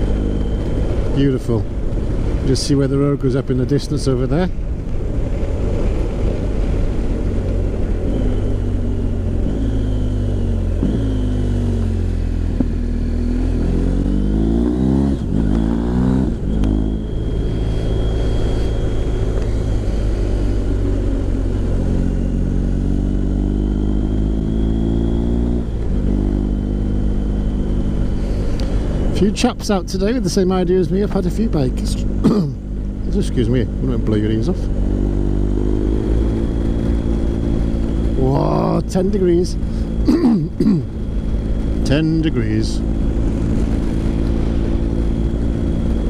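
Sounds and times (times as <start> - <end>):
motorcycle engine revving: 5.3 - 46.0.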